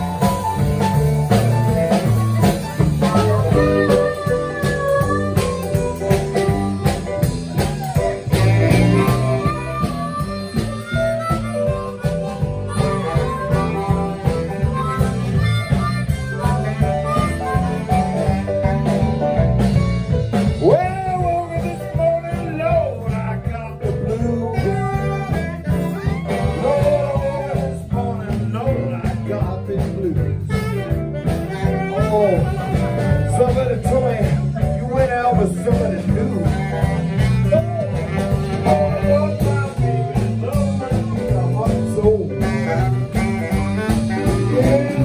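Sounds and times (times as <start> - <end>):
amplified harmonica melody: 0.0 - 45.0
blues band playing: 0.0 - 45.0.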